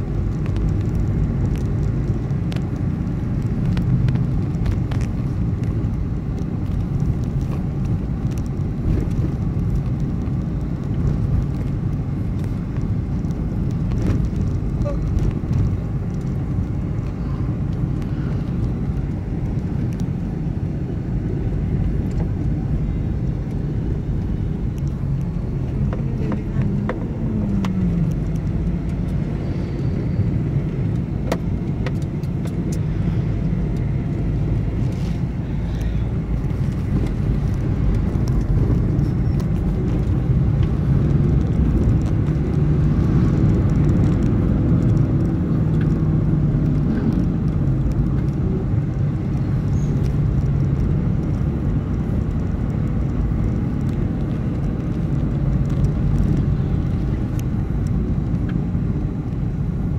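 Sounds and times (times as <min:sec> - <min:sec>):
road noise: 0:00.0 - 0:59.9
vehicle engine drone: 0:00.0 - 0:59.9.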